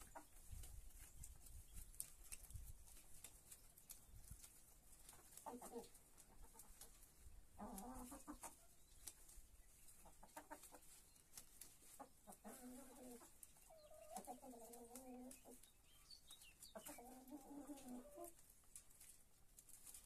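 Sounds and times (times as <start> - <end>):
chickens clucking softly: 0.0 - 20.0.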